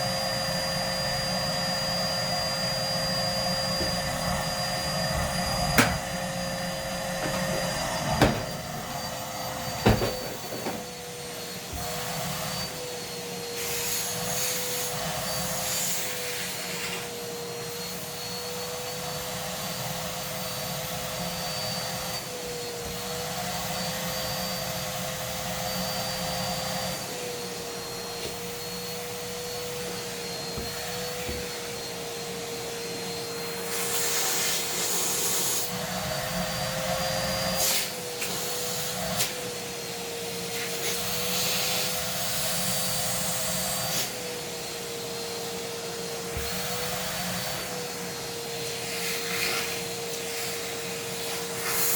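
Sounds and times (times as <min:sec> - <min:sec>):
vacuum cleaner motor whine: 0:00.0 - 0:51.9.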